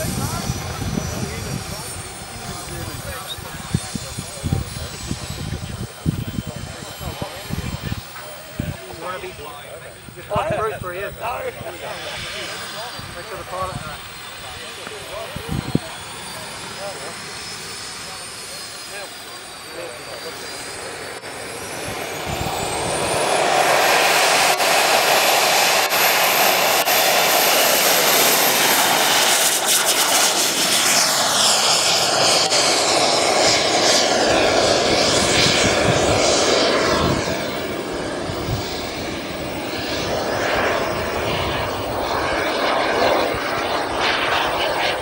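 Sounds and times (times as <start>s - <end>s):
model jet turbines whining: 0.0s - 45.0s.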